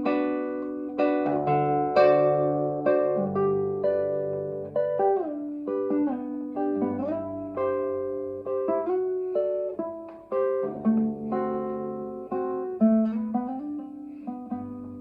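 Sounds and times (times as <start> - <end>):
classical guitar playing: 0.0 - 15.0.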